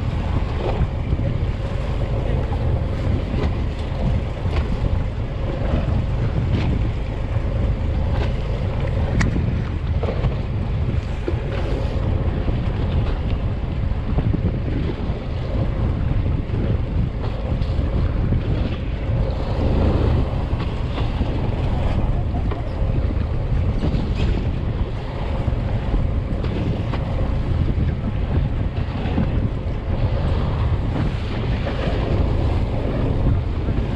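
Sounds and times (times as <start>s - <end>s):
steady low rumble: 0.0s - 33.9s
wind buffeting microphone: 0.0s - 33.9s.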